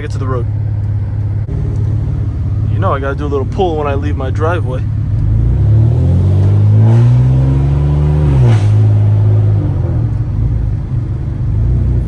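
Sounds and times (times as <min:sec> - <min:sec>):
car engine and exhaust accelerating: 0:00.0 - 0:12.0.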